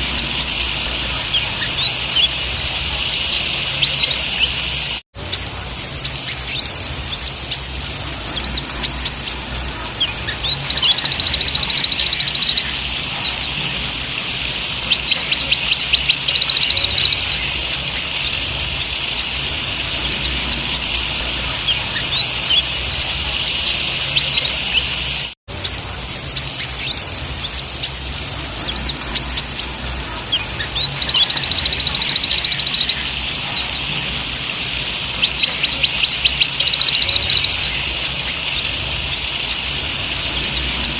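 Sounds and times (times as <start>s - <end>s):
sunbirds chirping and trilling: 0.0s - 40.9s.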